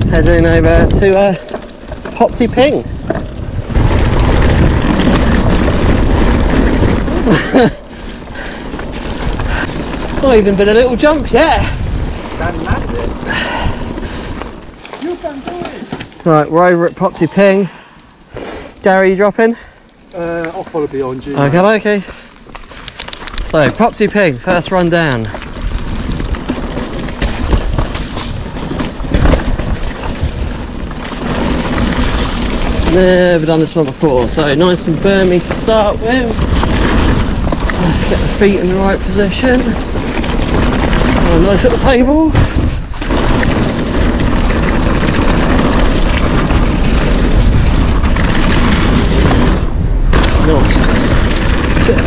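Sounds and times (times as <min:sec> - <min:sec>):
wind on microphone: 0:00.0 - 0:14.8, 0:25.0 - 0:52.0
bike clattering over bumps: 0:00.0 - 0:16.5, 0:20.0 - 0:52.0
bike tyres rumbling on dirt: 0:00.0 - 0:18.3, 0:18.9 - 0:52.0.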